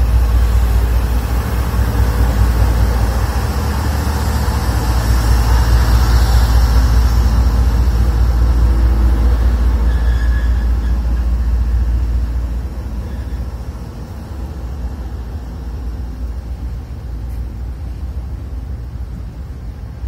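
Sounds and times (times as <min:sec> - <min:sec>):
locomotive engine rumble: 0:00.0 - 0:20.0.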